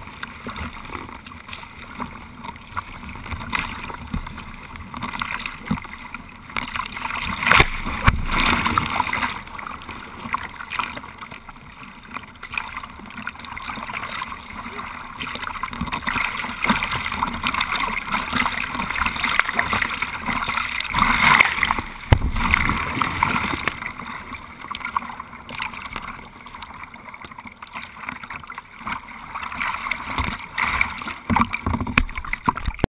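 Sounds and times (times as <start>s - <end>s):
water rushing and splashing: 0.0s - 32.9s.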